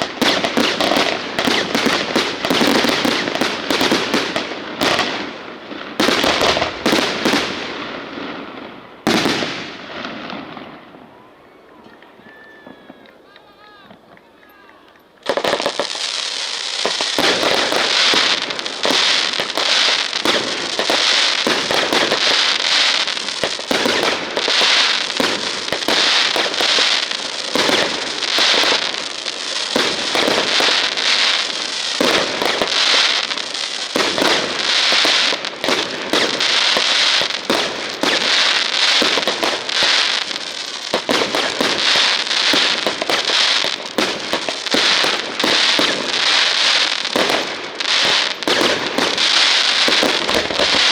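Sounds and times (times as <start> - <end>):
fireworks crackling: 0.0 - 50.9.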